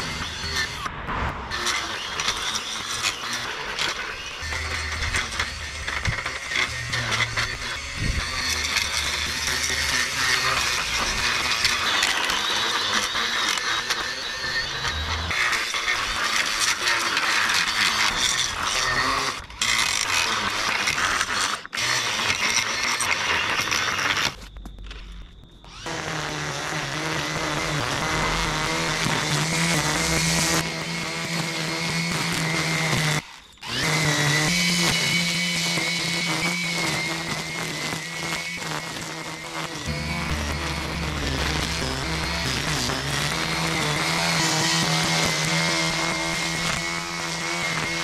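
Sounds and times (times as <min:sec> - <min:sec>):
brushcutter cutting grass: 0:01.5 - 0:25.0, 0:25.6 - 0:48.0.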